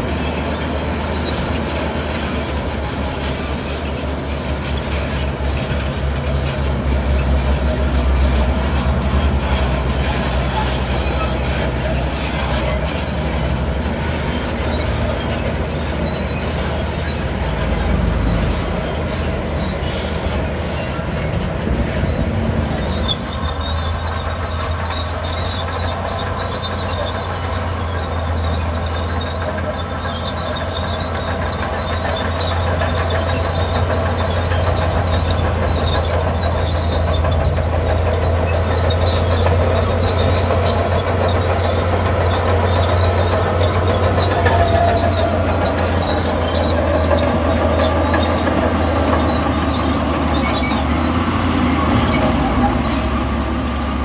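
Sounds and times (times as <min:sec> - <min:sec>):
bulldozer diesel drone: 0:00.0 - 0:54.0
steel tracks squealing and clanking: 0:00.0 - 0:54.0.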